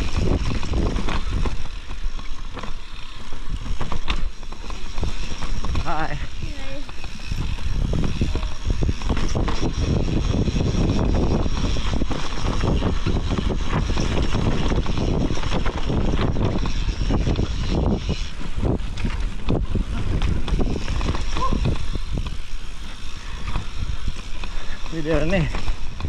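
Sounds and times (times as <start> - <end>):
bike knocks and rattles: 0.0 - 26.0
bike tyres rolling over dirt: 0.0 - 26.0
wind on the microphone: 0.0 - 26.0.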